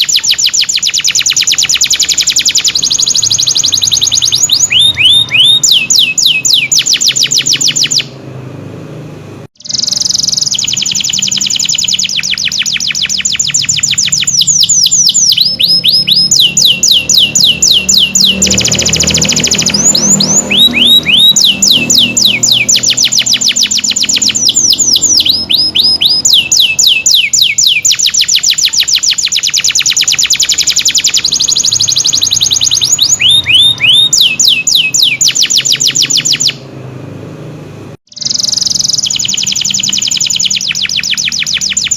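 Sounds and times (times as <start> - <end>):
canary singing: 0.0 - 8.2, 9.6 - 36.8, 38.1 - 41.9.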